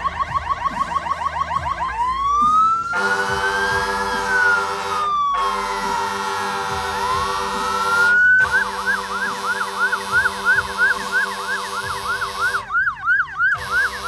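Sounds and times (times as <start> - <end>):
fire engine sirens: 0.0 - 14.0
steady horn tone: 2.6 - 14.0.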